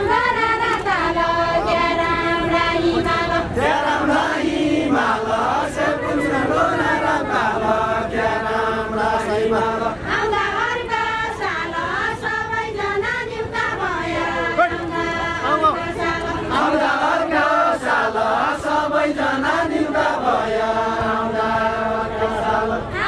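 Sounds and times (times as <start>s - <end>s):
group singing a chant-like song: 0.0s - 23.0s.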